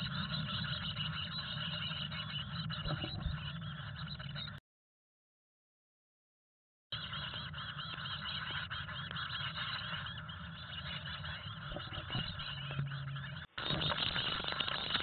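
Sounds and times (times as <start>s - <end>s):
nestlings chirping: 0.0s - 4.6s, 7.0s - 15.0s.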